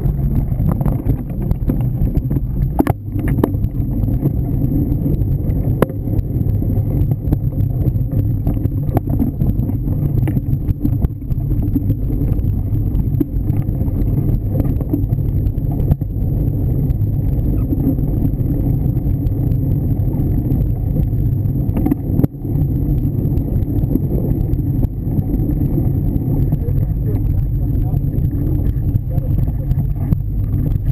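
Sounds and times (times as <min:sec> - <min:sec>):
bicycle clicks and knocks: 0:00.0 - 0:30.9
wind and ride vibration rumble: 0:00.0 - 0:30.9.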